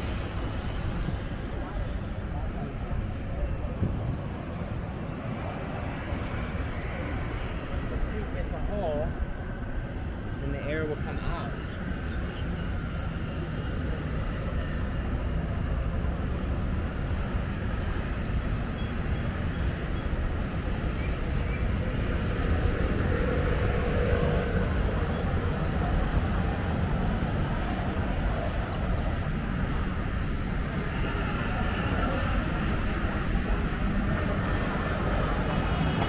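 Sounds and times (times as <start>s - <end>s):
city street traffic rumble: 0.0s - 36.0s.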